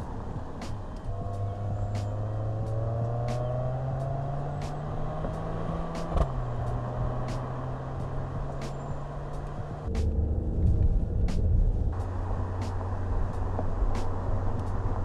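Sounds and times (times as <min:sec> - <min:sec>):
car engine accelerating: 0:00.0 - 0:15.0
sharp crack at upshift: 0:00.6 - 0:10.2, 0:11.3 - 0:14.8.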